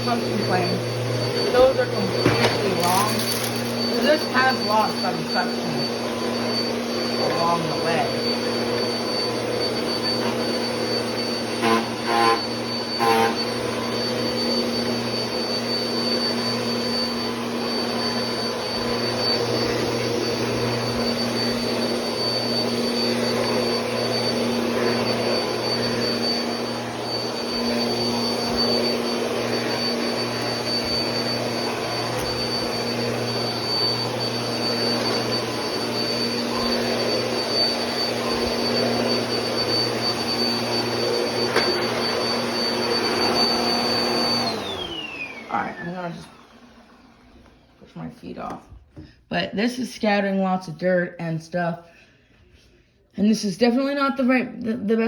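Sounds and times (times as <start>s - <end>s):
vacuum cleaner running: 0.0s - 52.7s, 53.6s - 55.0s.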